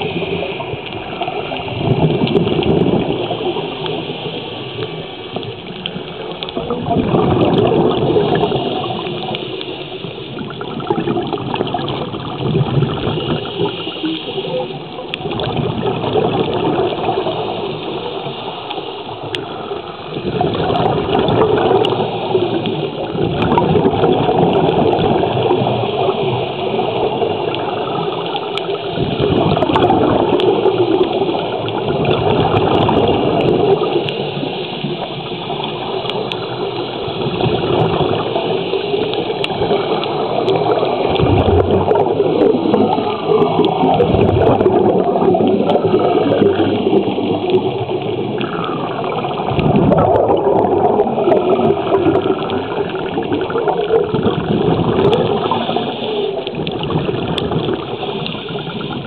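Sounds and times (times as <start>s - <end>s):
underwater scuba breathing bubbles: 0.0s - 59.0s.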